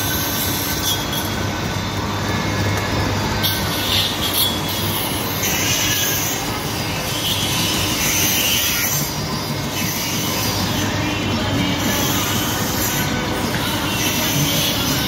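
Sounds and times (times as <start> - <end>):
high screech of saw: 0.0 - 1.4, 3.4 - 15.0
circular saw cutting stone: 0.0 - 1.6, 3.2 - 15.0.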